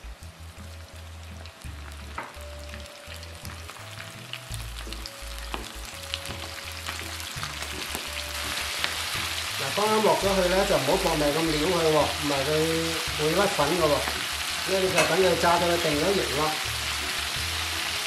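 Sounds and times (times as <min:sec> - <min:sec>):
food deep-frying in hot oil: 0:00.0 - 0:18.0.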